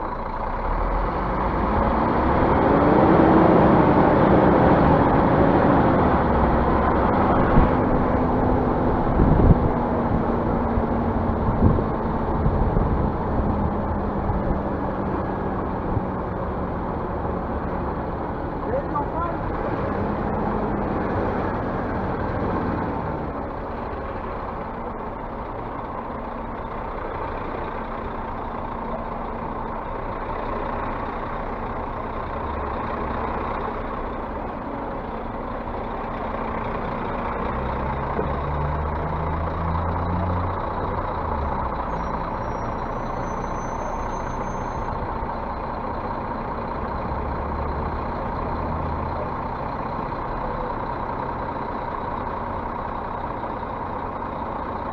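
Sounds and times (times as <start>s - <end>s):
bus engine hum: 0.0s - 54.9s
road noise: 0.0s - 54.9s.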